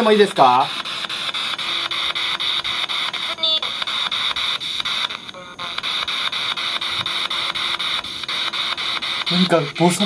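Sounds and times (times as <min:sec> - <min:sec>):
radio scanner sweeping static: 0:00.0 - 0:10.0
snatches of broadcast voices: 0:00.0 - 0:10.0.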